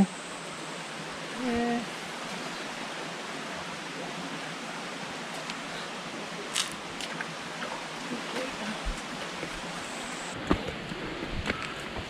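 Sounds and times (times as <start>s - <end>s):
creek water over rocks: 0.0s - 12.0s.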